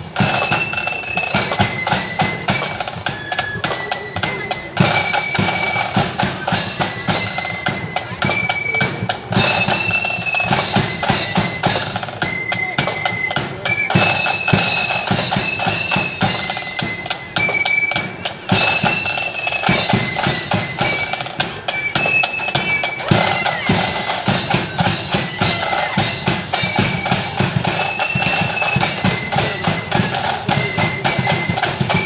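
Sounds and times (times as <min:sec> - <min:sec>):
marching band playing: 0:00.0 - 0:32.0
snare and bass drum beats: 0:00.0 - 0:32.0.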